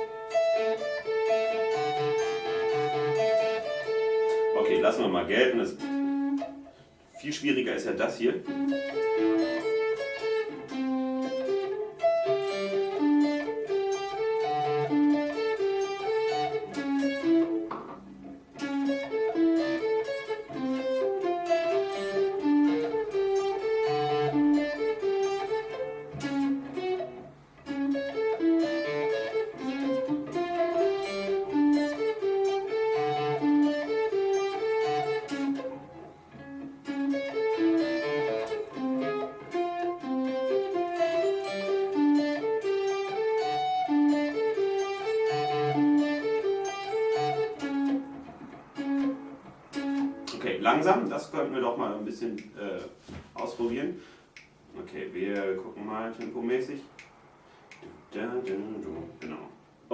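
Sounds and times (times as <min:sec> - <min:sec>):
guitar arpeggio riff: 0:00.0 - 0:51.5.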